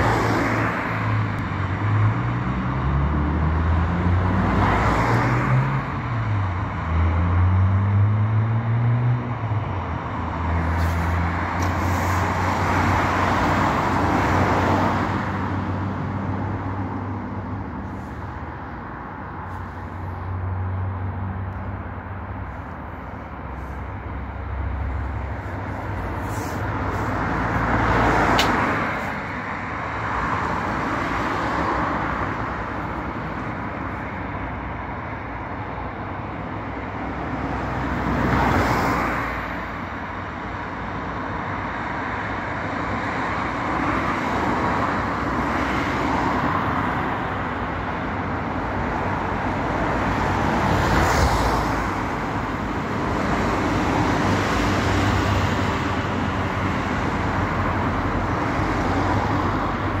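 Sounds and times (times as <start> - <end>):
cars passing: 0.0 - 60.0.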